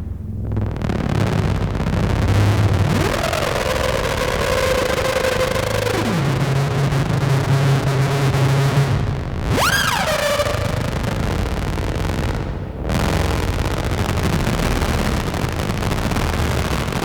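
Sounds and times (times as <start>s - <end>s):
synthesizer drone over noise: 0.0s - 17.0s.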